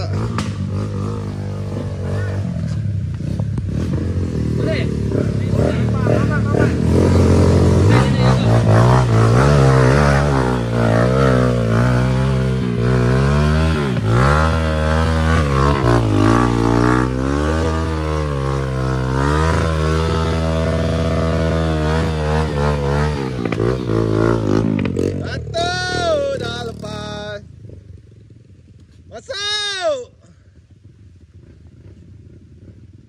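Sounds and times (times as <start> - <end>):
motorcycle engine revving: 0.0 - 29.2, 30.4 - 33.0.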